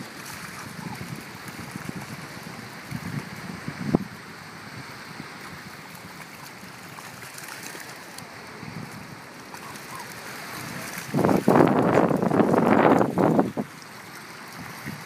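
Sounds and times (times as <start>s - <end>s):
light wind: 0.0s - 15.0s
small waves washing: 0.0s - 15.0s.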